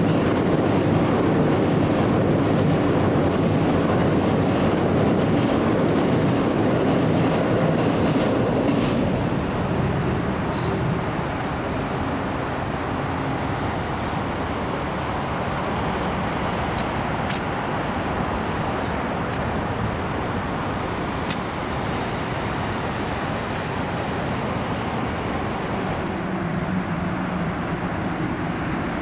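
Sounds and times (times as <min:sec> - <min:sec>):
road traffic roar: 0:00.0 - 0:29.0.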